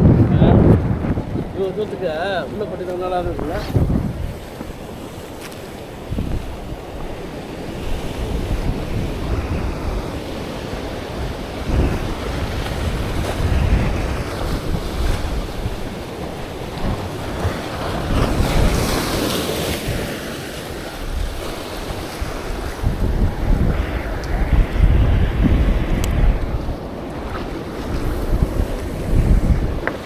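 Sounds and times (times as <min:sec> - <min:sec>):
sea waves washing on shore: 0:00.0 - 0:30.0
wind buffeting microphone: 0:00.0 - 0:30.0.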